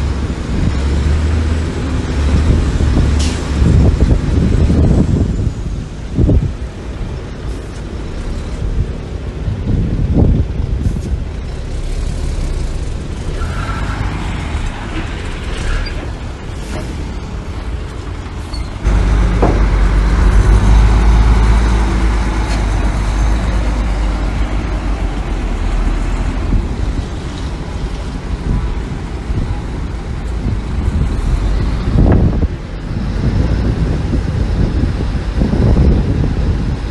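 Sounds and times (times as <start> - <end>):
heavy diesel machinery rumbling: 0.0 - 36.9.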